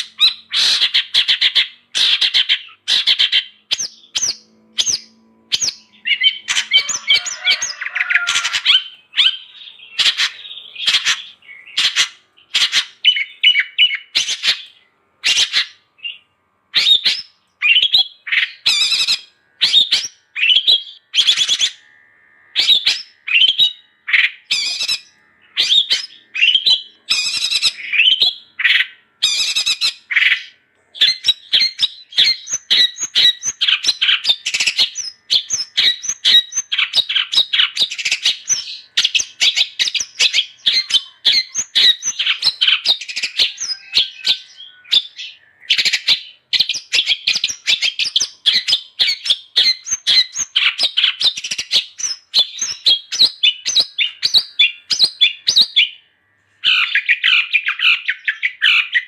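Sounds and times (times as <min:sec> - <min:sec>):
shrike harsh scratchy calls: 0:00.0 - 0:55.5.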